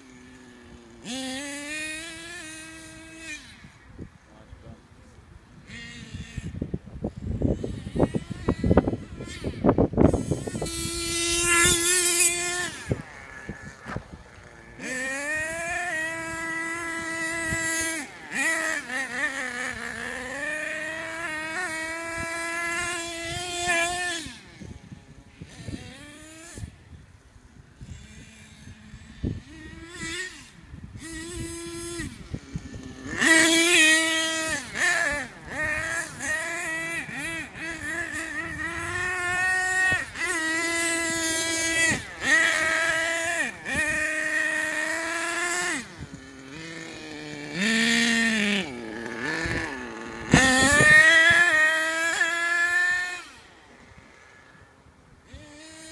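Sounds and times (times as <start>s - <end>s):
toy truck motor revving: 0.0s - 4.3s, 5.5s - 55.9s.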